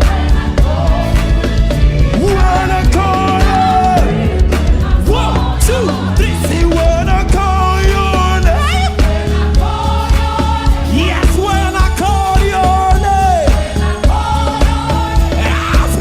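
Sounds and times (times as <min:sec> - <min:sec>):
bass: 0:00.0 - 0:16.0
steady drum beat: 0:00.0 - 0:16.0.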